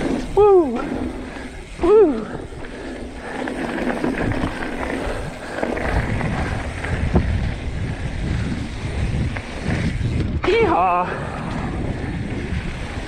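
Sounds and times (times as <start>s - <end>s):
bike clicks and rattles: 0.0s - 13.0s
bike tyres rolling on dirt: 0.0s - 13.0s
wind on microphone: 0.0s - 13.0s.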